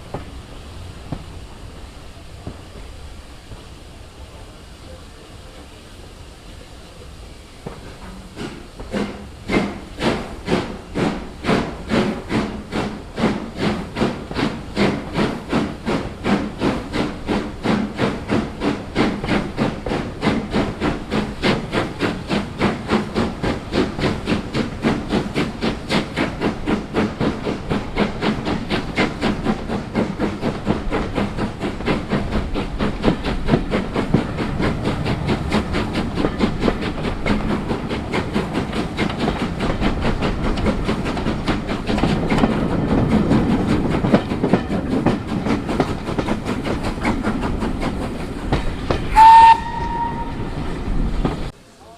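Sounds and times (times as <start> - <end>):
steam locomotive chuffing: 0.0 - 51.9.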